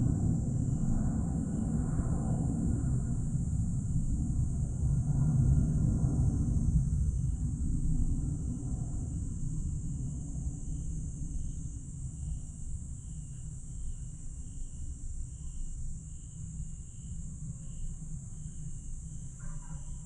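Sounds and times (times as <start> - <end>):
crickets trilling: 0.0 - 20.0
insect chirp pulsing: 0.0 - 20.0.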